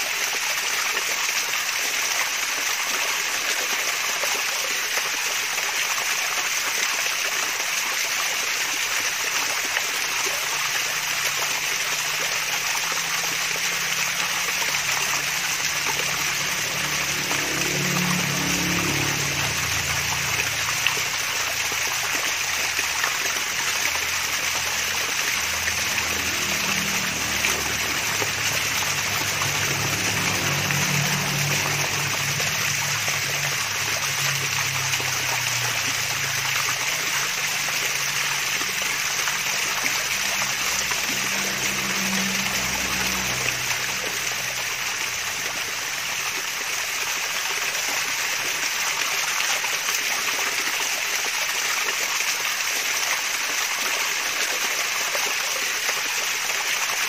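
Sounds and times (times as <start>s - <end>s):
small waterfall splashing: 0.0s - 57.0s.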